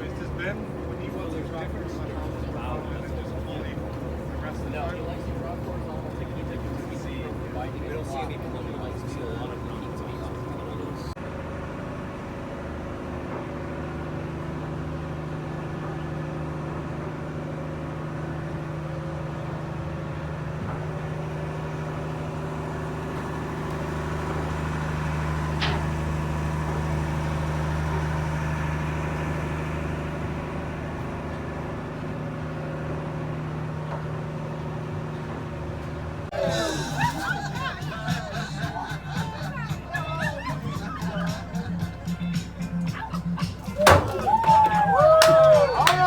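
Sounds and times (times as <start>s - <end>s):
boat engine humming: 0.0s - 46.0s.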